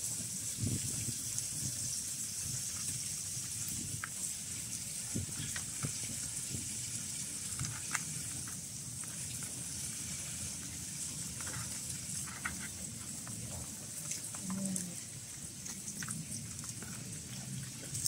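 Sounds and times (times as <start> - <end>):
cats chewing and crunching: 0.0 - 18.0.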